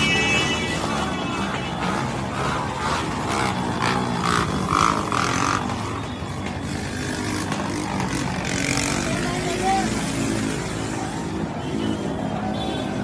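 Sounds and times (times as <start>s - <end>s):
crowd noise: 0.0s - 13.0s
motorcycle engines running: 0.7s - 11.6s.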